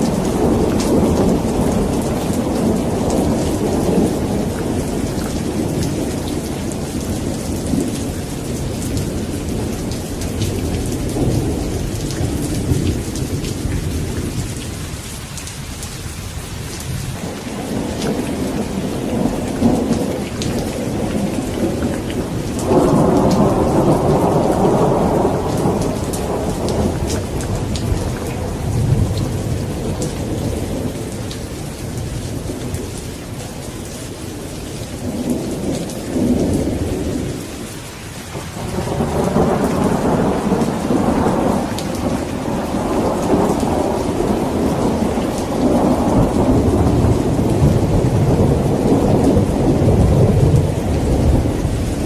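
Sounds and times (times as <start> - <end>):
thunder rumbling: 0.0 - 15.5, 16.8 - 52.0
steady rain falling: 0.0 - 52.0.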